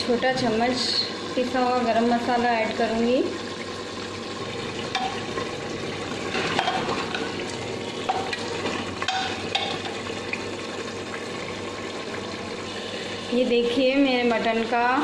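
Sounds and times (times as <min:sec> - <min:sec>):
food sizzling and bubbling in pot: 0:00.0 - 0:15.0.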